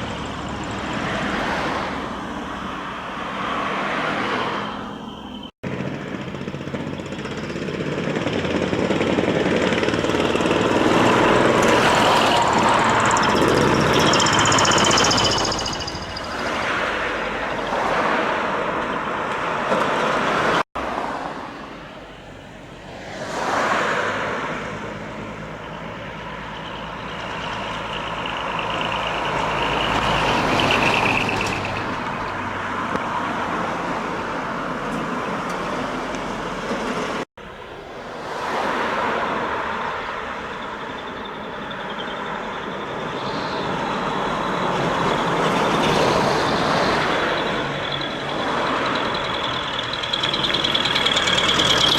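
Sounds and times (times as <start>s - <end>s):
diesel trucks driving past: 0.0s - 51.9s.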